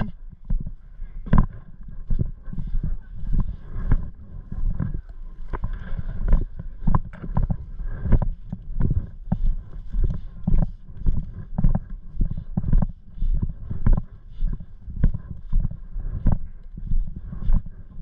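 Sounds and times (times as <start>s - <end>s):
footsteps walking: 0.0s - 18.0s.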